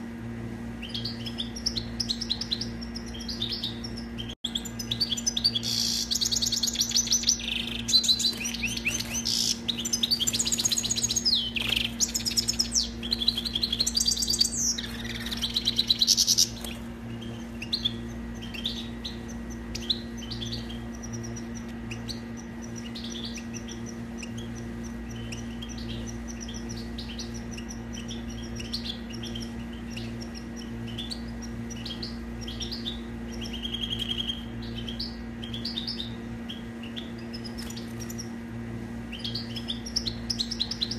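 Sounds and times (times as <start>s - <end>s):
low hum: 0.0s - 40.9s
goldfinch twittering song: 0.7s - 40.9s.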